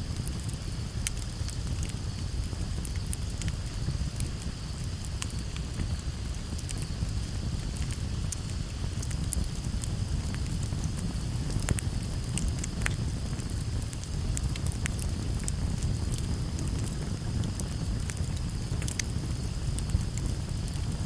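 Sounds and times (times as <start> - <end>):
fire crackling and popping: 0.0 - 21.0
flames rumbling: 0.0 - 21.0.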